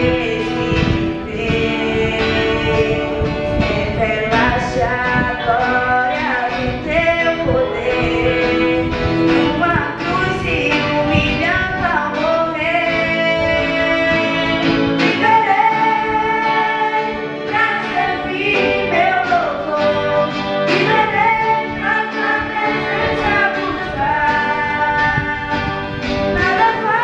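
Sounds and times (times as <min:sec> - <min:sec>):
girl singing into microphone: 0:00.0 - 0:27.0
guitars and bass playing: 0:00.0 - 0:27.0.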